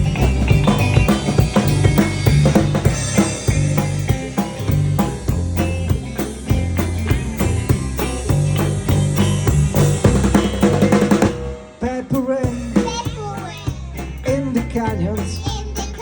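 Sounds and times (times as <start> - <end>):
instrumental rock music: 0.0 - 16.0.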